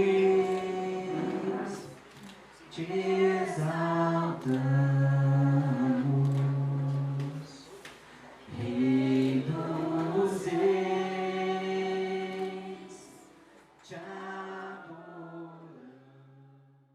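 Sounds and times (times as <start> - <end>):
voices singing worship chorus: 0.0 - 16.7.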